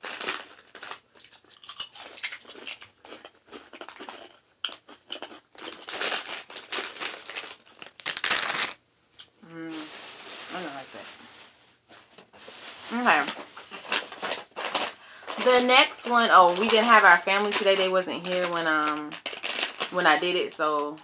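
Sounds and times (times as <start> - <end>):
chips crunching: 0.0 - 9.3, 11.9 - 21.0
chip bag crinkling: 0.0 - 21.0.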